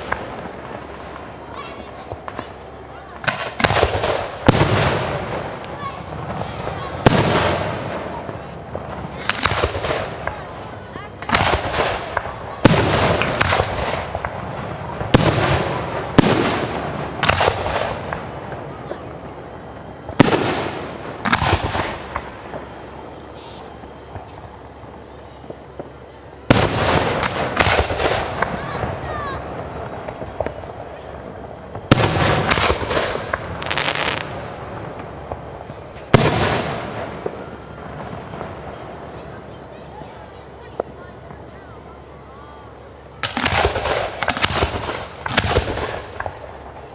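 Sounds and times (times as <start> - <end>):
firework pops and crackle: 0.0 - 39.3, 42.8 - 46.9
firework shells bursting: 0.0 - 39.3, 40.6 - 46.9.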